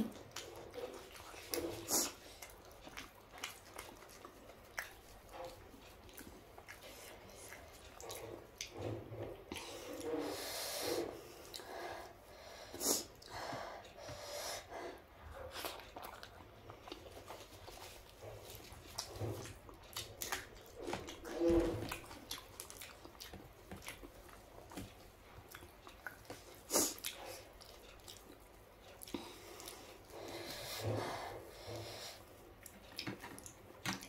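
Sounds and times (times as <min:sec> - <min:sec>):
close chewing and mouth sounds: 0:00.0 - 0:34.0.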